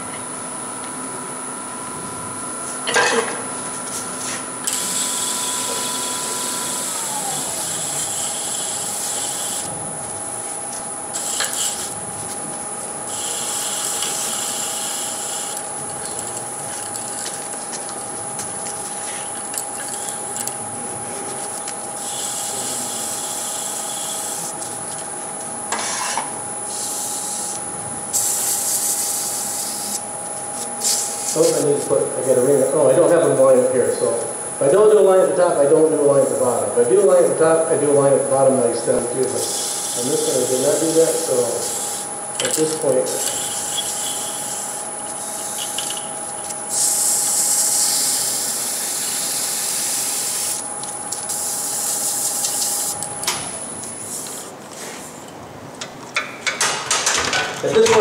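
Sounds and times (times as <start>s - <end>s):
lathe motor whine: 3.6s - 25.7s, 26.3s - 54.1s.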